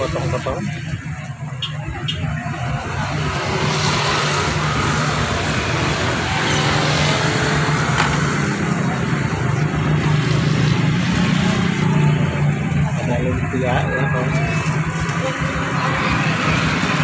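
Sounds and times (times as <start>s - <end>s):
road traffic on wet street: 0.0s - 17.0s.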